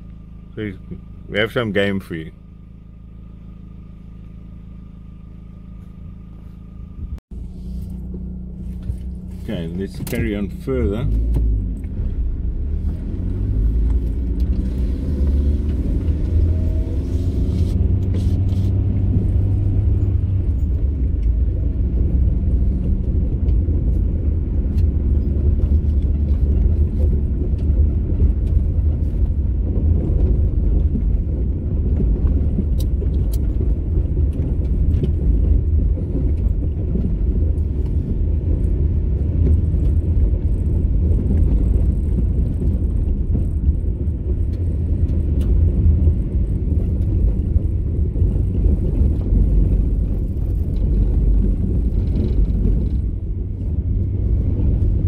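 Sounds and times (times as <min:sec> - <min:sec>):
car driving on gravel: 0:00.0 - 0:55.0.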